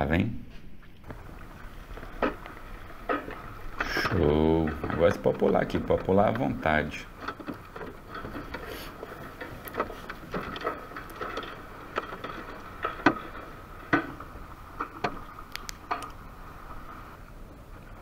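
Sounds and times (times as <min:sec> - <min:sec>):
faint steady hum: 0:00.0 - 0:18.0
fish flapping against a hull: 0:01.0 - 0:17.8.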